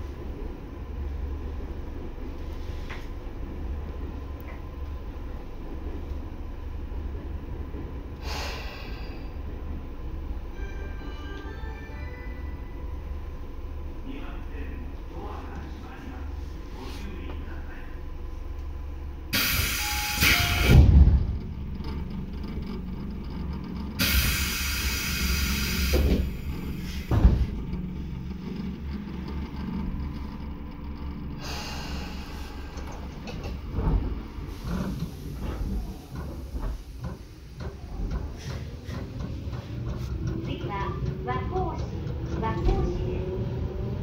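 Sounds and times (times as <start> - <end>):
train low rumble: 0.0 - 44.0.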